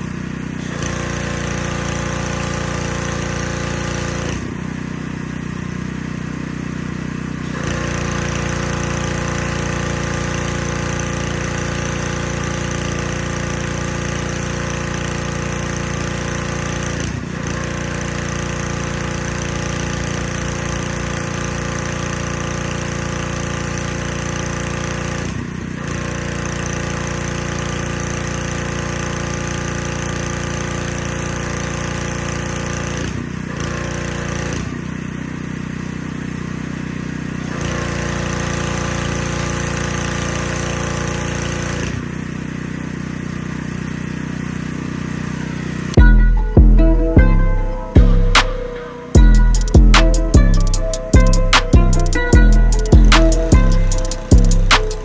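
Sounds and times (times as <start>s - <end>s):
motor running with rattly hum: 0.0s - 46.2s, 48.1s - 55.0s.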